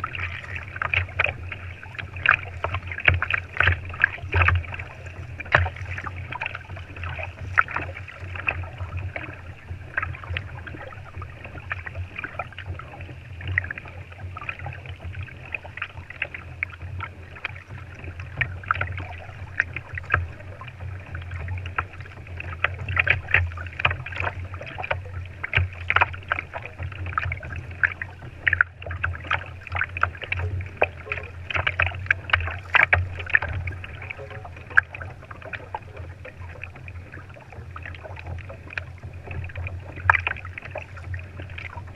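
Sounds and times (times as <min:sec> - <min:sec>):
small splashes and knocks: 0:00.0 - 0:41.9
steady low rumble: 0:00.0 - 0:41.9
water slapping against kayak hull: 0:00.0 - 0:41.9.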